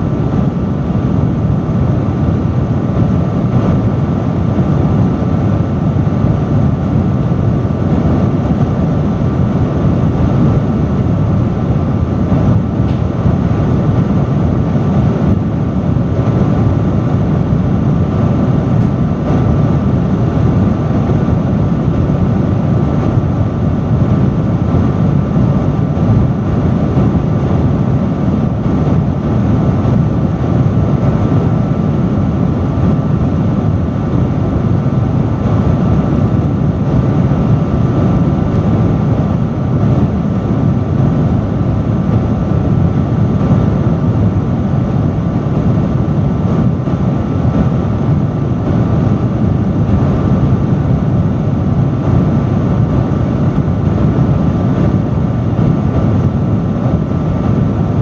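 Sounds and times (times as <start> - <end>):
industrial fan running: 0.0 - 58.0.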